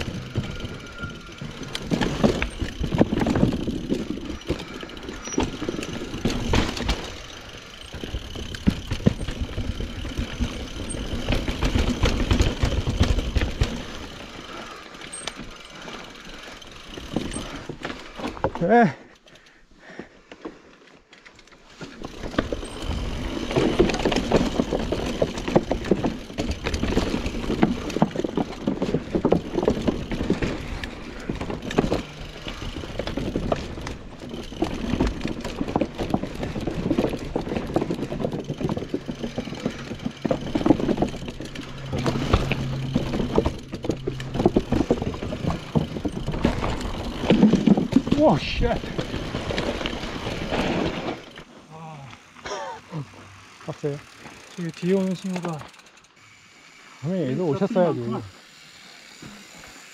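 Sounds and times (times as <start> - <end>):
tyre noise on dirt: 0.0 - 19.0, 21.6 - 56.0
bike rattles and knocks: 0.0 - 19.5, 20.2 - 56.1.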